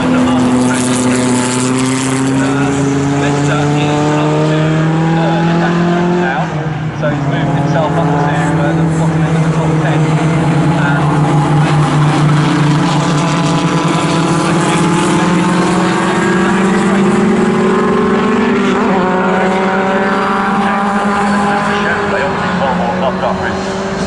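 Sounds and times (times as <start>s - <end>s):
racing car engine at high revs: 0.0s - 24.0s.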